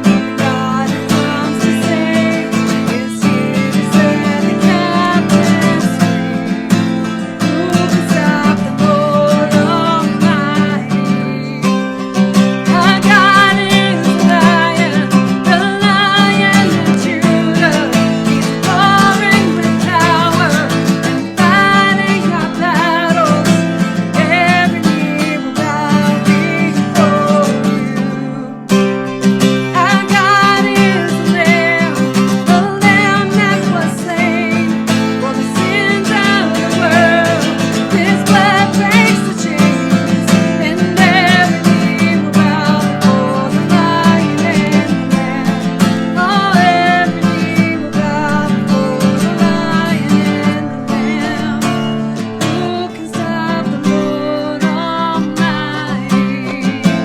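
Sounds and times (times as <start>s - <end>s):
person singing: 0.0s - 57.0s
strummed acoustic guitar: 0.0s - 57.0s.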